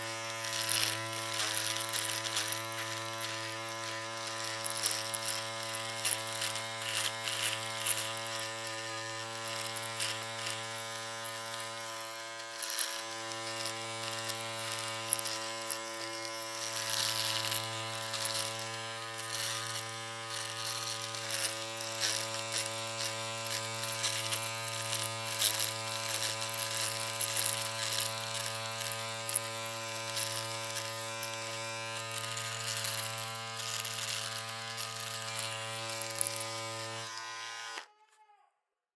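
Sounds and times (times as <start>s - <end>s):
electric shaver buzzing: 0.0s - 38.1s.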